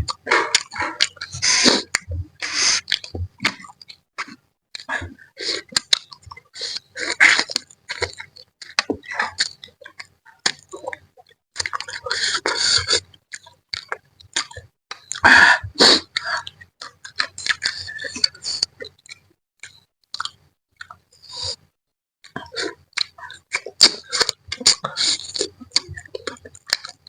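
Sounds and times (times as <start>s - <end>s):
wet chewing and smacking: 0.0s - 21.6s, 22.2s - 27.0s.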